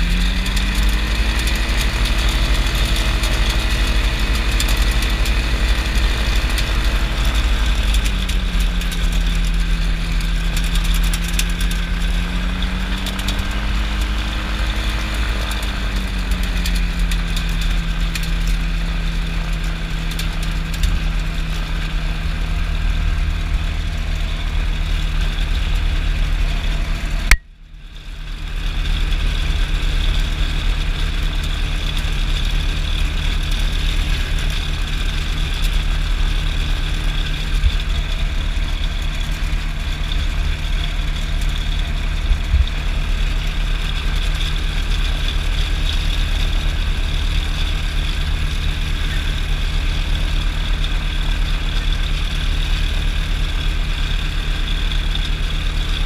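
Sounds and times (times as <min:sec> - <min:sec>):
light aircraft engine running: 0:00.0 - 0:56.0.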